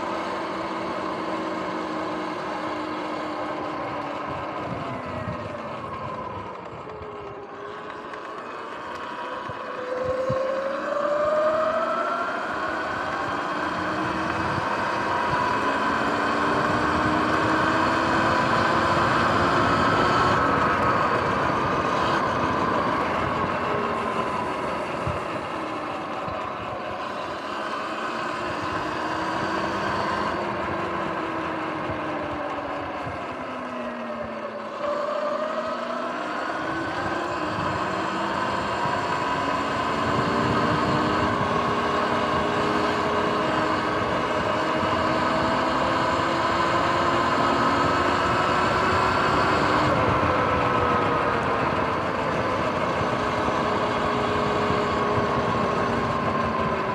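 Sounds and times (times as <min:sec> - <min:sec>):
electric motor whining: 0:00.0 - 0:56.9
wind and tyre noise: 0:00.0 - 0:56.9.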